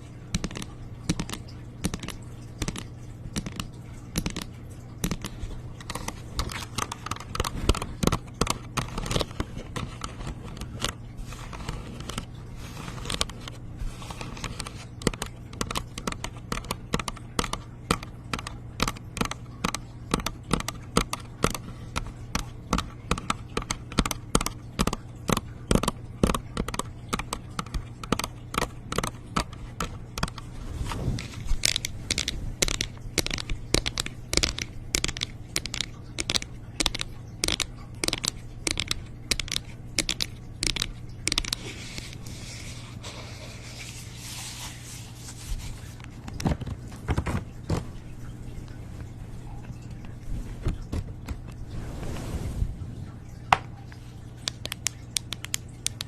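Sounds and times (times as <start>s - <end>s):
steady low hum: 0.0s - 56.0s
small clicks and scratches: 0.3s - 48.0s, 53.9s - 56.0s.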